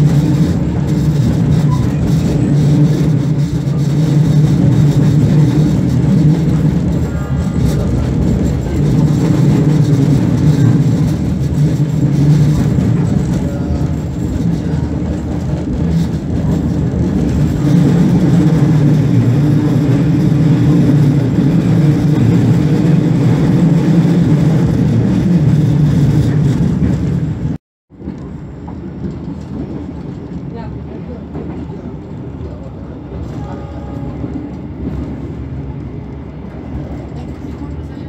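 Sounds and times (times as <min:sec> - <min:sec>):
train rumbling inside carriage: 0:00.0 - 0:38.0.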